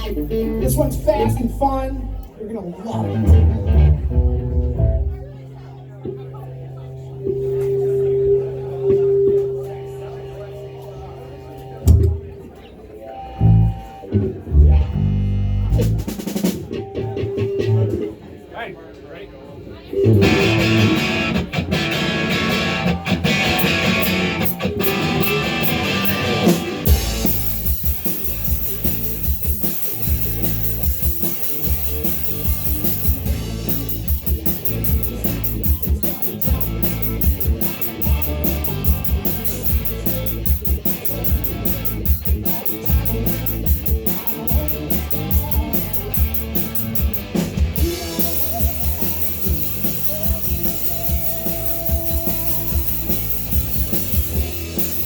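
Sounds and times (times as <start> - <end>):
bass guitar: 0.0 - 12.4, 13.2 - 18.1, 19.9 - 55.0
electric guitar: 0.0 - 12.4, 13.1 - 18.1, 19.9 - 55.0
drums: 0.0 - 55.0.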